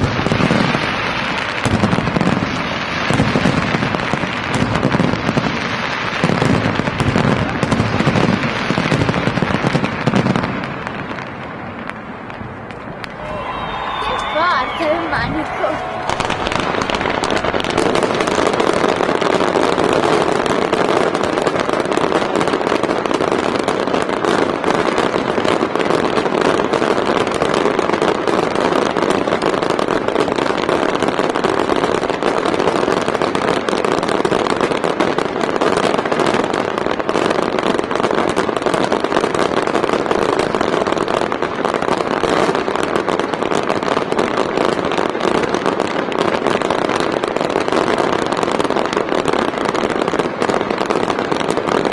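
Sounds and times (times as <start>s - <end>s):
fireworks crackling barrage: 0.0s - 51.9s.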